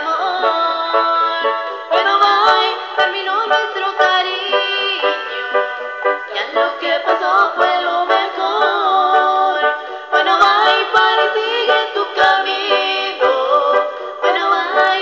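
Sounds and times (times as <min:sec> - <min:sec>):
electronic keyboard accompaniment: 0:00.0 - 0:15.0
woman singing into microphone: 0:00.0 - 0:15.0.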